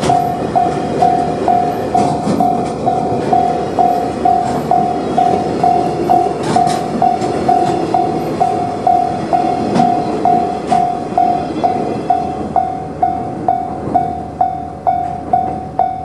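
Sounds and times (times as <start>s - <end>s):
freight wagons rumbling: 0.0s - 16.0s
level crossing bell ringing: 0.0s - 16.0s
wheels clicking over rail joints: 0.0s - 16.0s.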